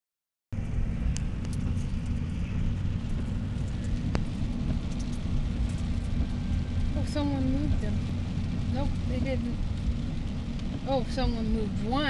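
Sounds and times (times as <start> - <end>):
car engine and road noise: 0.5 - 12.0.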